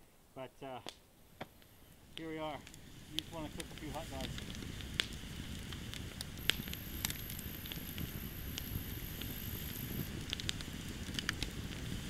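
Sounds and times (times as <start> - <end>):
campfire crackling and popping: 0.3 - 12.0
fire low rush: 1.2 - 12.0.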